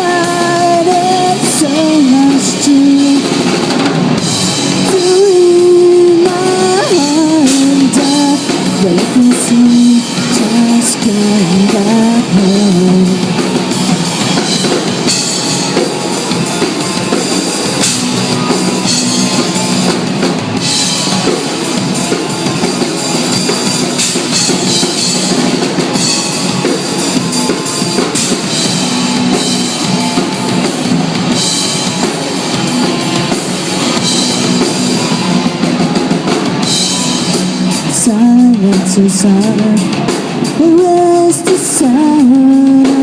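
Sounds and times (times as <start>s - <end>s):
drum kit with cymbals: 0.0s - 43.0s
electric guitar: 0.0s - 43.0s.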